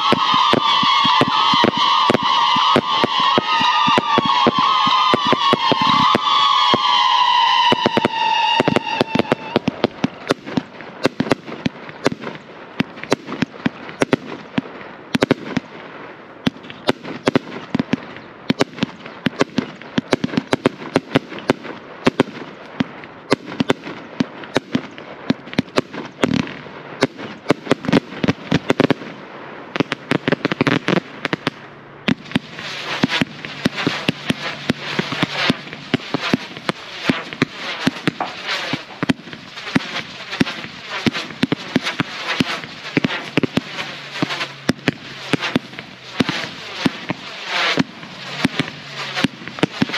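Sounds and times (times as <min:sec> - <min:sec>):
firework cake pops and bangs: 0:00.0 - 0:15.8, 0:16.4 - 0:29.2, 0:29.8 - 0:49.9
crackling firework stars: 0:00.0 - 0:49.9.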